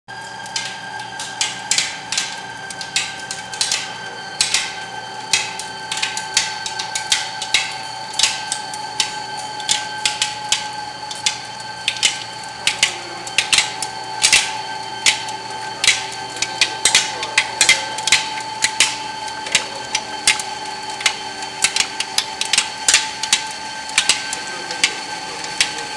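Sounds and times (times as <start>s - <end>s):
roll forming machine whine: 0.1s - 25.9s.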